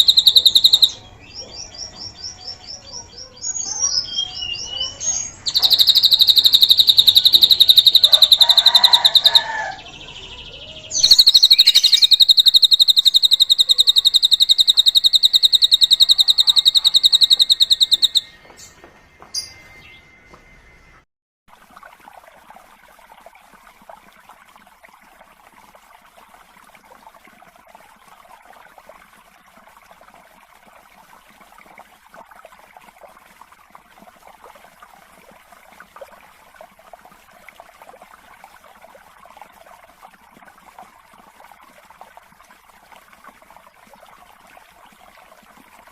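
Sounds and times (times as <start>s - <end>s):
water trickling and babbling: 0.0s - 45.9s.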